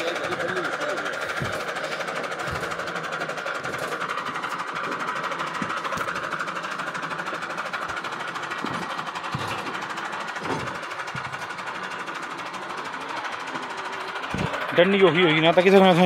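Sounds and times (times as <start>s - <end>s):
tractor diesel engine clattering: 0.0s - 16.0s.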